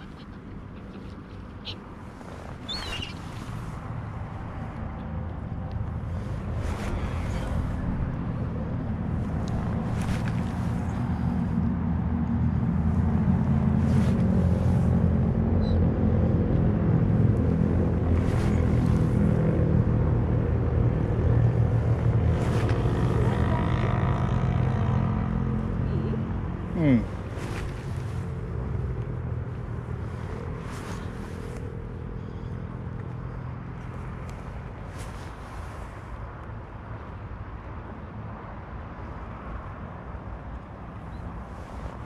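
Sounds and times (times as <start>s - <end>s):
engine droning: 0.0s - 37.4s.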